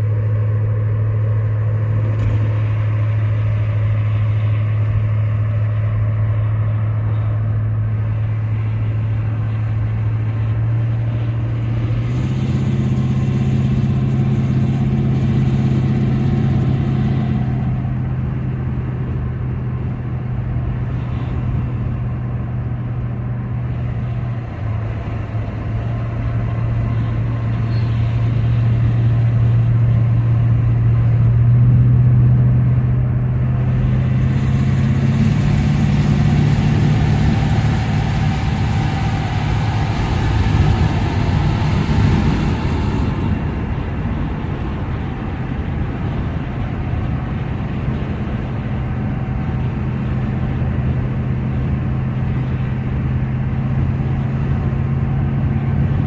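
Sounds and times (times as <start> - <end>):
car engine drone from inside: 0.0 - 56.0
road noise: 0.0 - 56.0.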